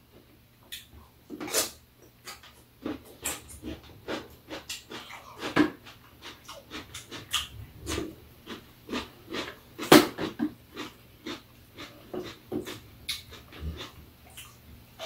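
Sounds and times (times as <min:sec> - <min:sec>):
chewing and lip-smacking: 0:01.5 - 0:14.7.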